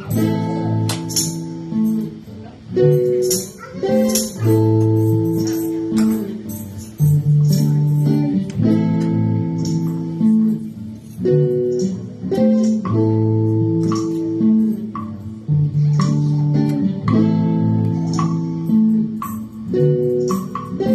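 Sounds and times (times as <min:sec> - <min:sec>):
guitar chords ringing: 0:00.0 - 0:20.9.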